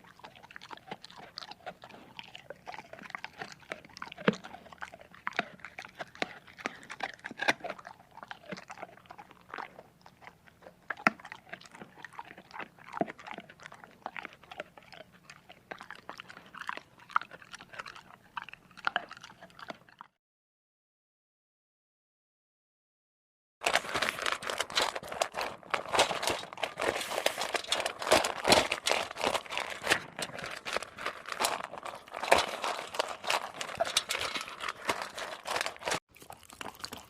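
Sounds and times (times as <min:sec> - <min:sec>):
dog chewing and crunching food: 0:00.0 - 0:20.2, 0:23.6 - 0:37.0.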